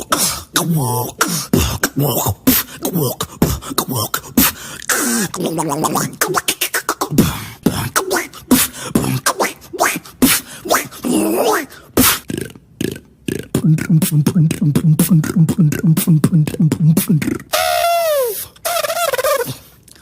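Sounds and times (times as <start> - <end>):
person beatboxing: 0.0 - 20.0.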